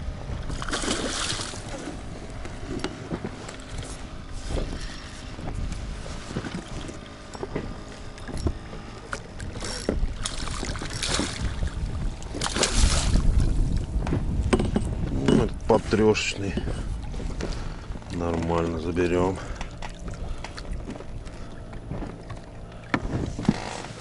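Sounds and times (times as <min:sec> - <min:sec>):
rumble: 0:00.0 - 0:24.0.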